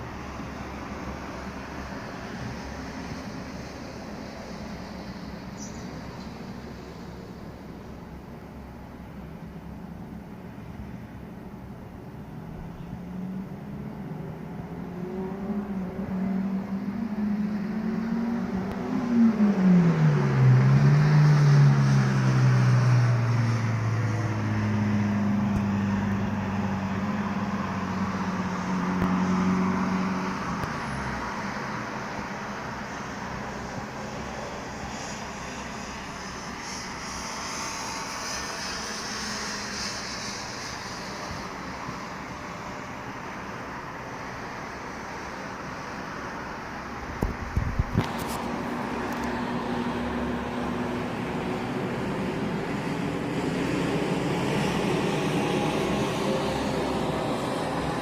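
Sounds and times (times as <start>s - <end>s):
traffic noise: 0.0s - 58.0s
vehicle passing on street: 0.0s - 58.0s.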